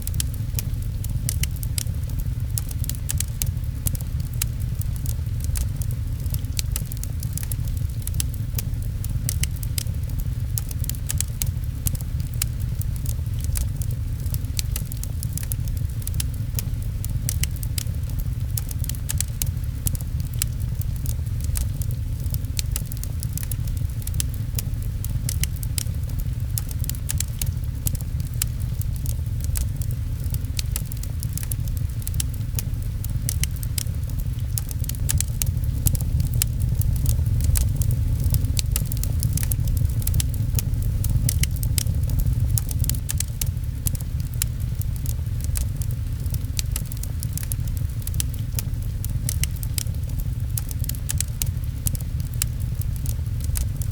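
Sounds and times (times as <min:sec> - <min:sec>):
deep rumble: 0:00.0 - 0:53.9
wood fire crackling: 0:00.0 - 0:53.9.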